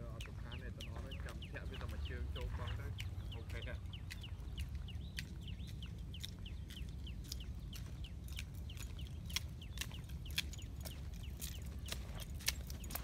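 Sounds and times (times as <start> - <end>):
footsteps on dirt road: 0.0 - 13.0
small bird chirping: 0.0 - 13.0
steady low rumble: 0.0 - 13.0.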